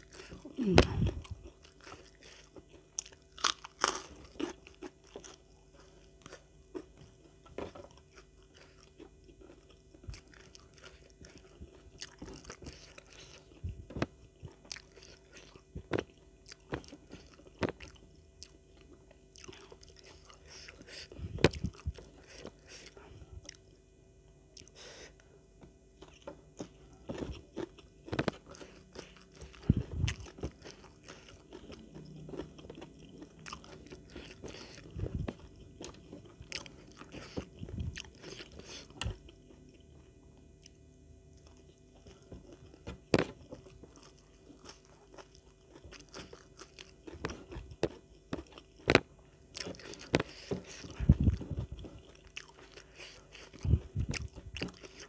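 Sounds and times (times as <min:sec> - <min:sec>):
crunchy bites and chewing: 0:00.0 - 0:23.7, 0:26.0 - 0:55.0.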